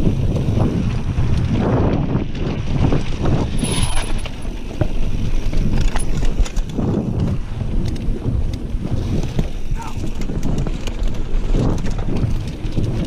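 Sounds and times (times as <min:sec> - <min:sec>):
bike rattling over bumps: 0:00.0 - 0:13.0
tyres on dirt: 0:00.0 - 0:13.0
wind rumbling on microphone: 0:00.0 - 0:13.0.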